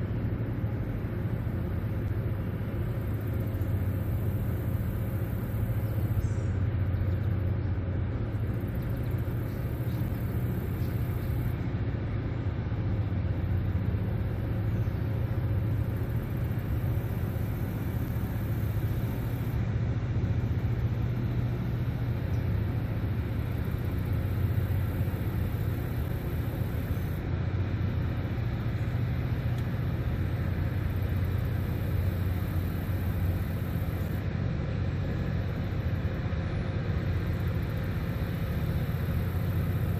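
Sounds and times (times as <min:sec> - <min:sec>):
boat diesel engines rumbling: 0:00.0 - 0:39.9.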